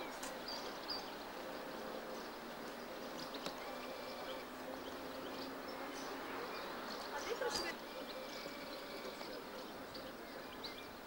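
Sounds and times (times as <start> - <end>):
low buzzing hum: 0.0 - 11.0.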